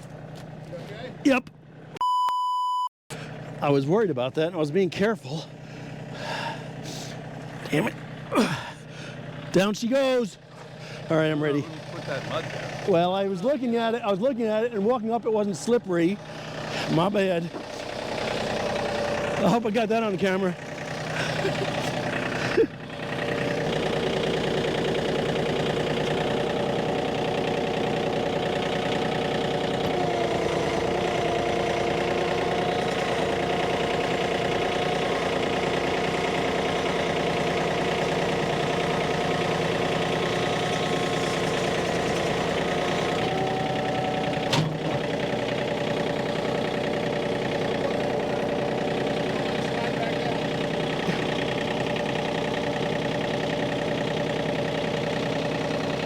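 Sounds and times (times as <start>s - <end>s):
tractor engine idling: 0.0s - 2.0s, 3.1s - 56.0s.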